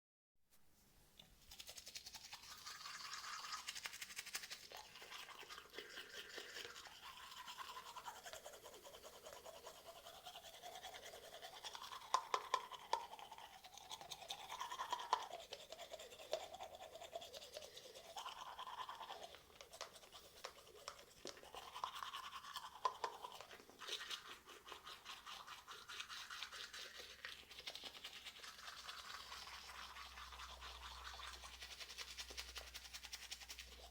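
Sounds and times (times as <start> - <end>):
toothbrush scrubbing teeth: 1.2 - 33.9.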